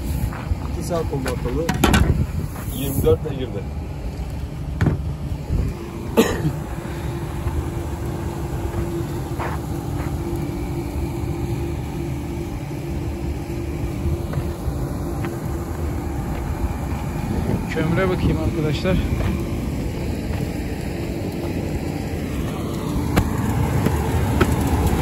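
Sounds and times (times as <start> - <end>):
machinery rumbling and humming: 0.0 - 25.0.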